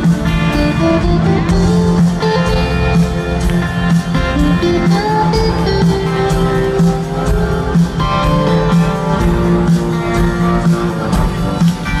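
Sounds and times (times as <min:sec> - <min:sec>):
lead guitar: 0:00.0 - 0:12.0
rock band playing: 0:00.0 - 0:12.0.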